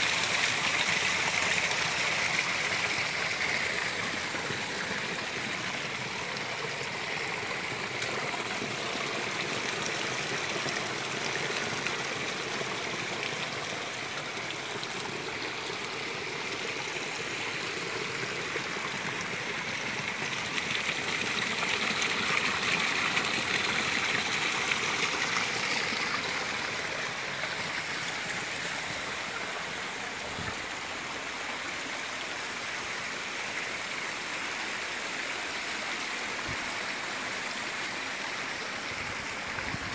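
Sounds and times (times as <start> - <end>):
water rushing down rock channel: 0.0 - 39.9.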